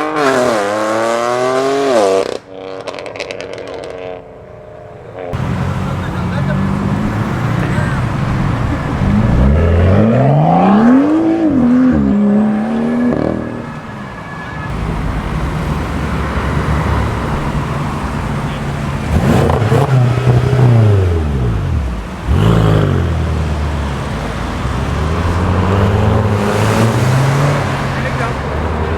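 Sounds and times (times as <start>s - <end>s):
car engine revving: 0.0s - 28.9s
drone of other engines: 4.2s - 28.9s.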